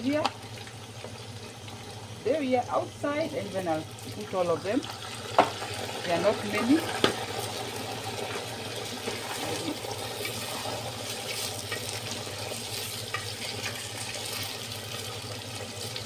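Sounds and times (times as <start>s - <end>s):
potatoes sizzling in hot oil: 0.0s - 16.0s
small crackles of frying: 0.0s - 16.0s.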